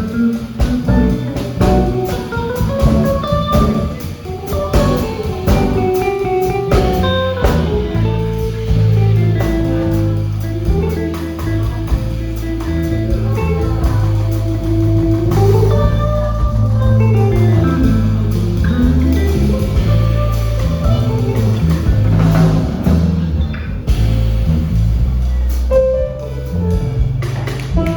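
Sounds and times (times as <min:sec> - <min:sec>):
guitar bending melody: 0:00.0 - 0:27.9
jazz band playing: 0:00.0 - 0:27.9.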